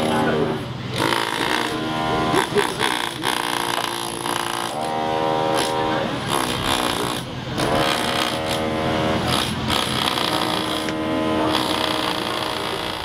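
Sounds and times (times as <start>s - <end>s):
constant rough noise: 0.0s - 13.0s.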